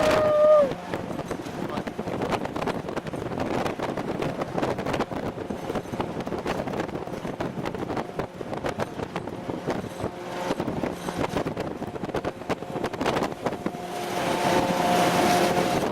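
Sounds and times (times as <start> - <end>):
wind buffeting microphone: 0.0 - 15.9
vehicle engine and road drone: 0.6 - 15.9
rattling and clanking: 0.9 - 14.6.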